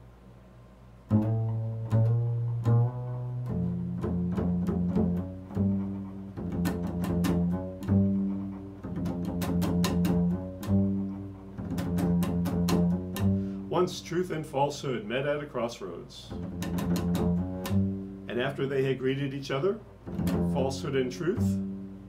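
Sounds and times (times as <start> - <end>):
bass playing sustained low notes: 1.0 - 22.0.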